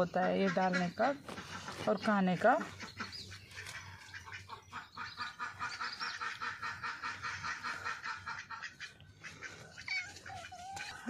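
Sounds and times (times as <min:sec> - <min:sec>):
birds chattering: 0:00.0 - 0:11.0.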